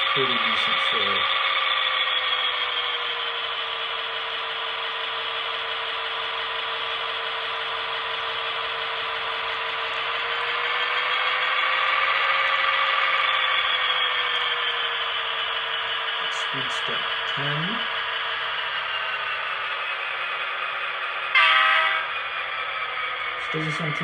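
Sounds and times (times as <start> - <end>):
diesel engine sound from small speaker: 0.0 - 24.0
model motor and gears whirring: 0.0 - 24.0.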